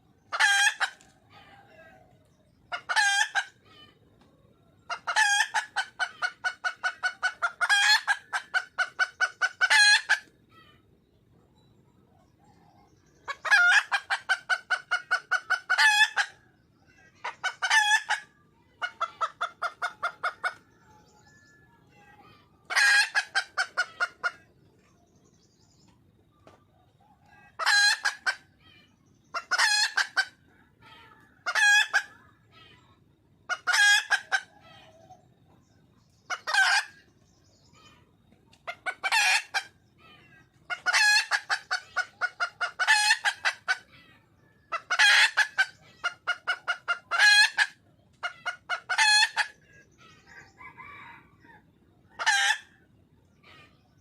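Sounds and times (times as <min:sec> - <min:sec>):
hen clucking loudly: 0:00.0 - 0:04.2, 0:04.8 - 0:11.0, 0:12.2 - 0:25.3, 0:26.2 - 0:37.2, 0:37.8 - 0:54.0.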